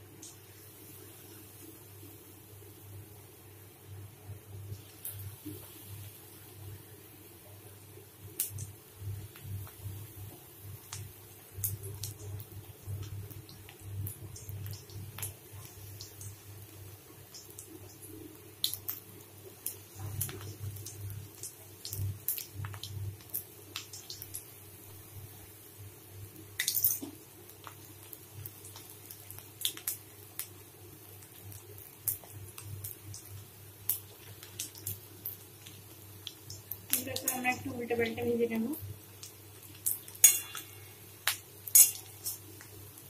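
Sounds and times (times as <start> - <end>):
food deep-frying with pops: 0.0 - 43.0
low steady hum: 0.0 - 43.0.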